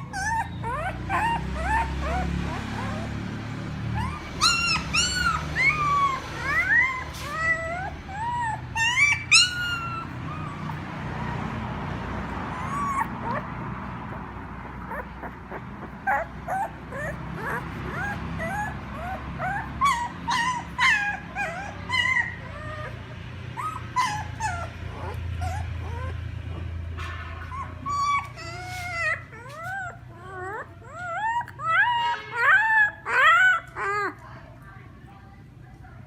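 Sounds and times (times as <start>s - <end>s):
puppy whining and yipping: 0.0s - 34.2s.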